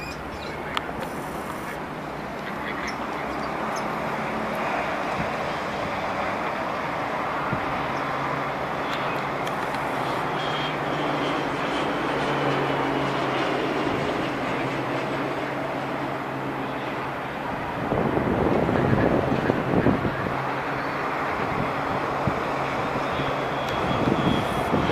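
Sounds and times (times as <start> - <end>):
propeller aircraft drone overhead: 0.0 - 24.9.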